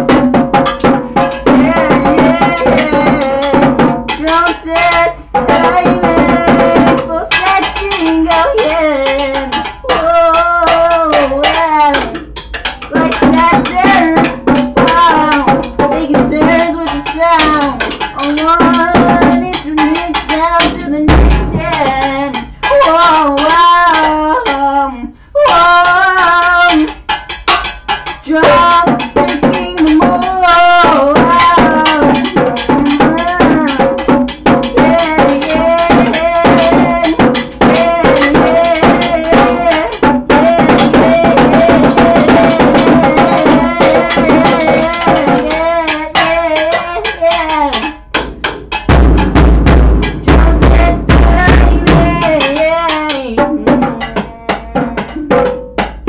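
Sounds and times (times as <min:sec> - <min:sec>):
rapid drumming on drum kit: 0:00.0 - 0:56.0.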